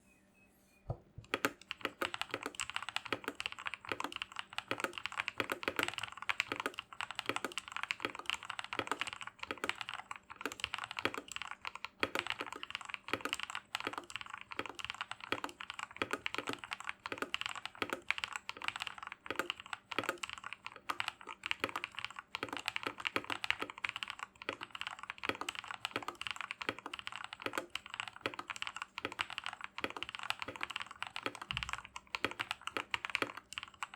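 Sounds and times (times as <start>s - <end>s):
mechanical keyboard typing: 1.2s - 33.9s.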